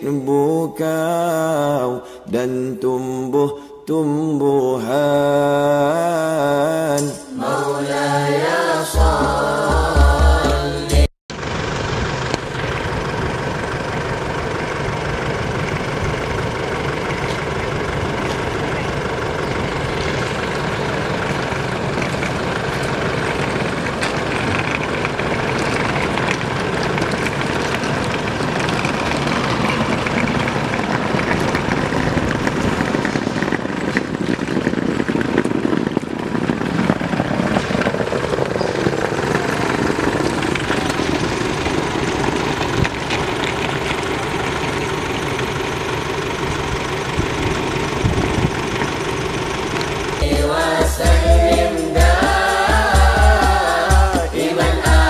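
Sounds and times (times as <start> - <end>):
vehicle engine idling with knocking: 9.0 - 55.0.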